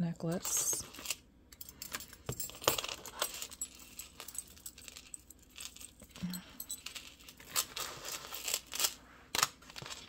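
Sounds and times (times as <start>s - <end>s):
metal jewelry clinking: 0.2s - 9.0s.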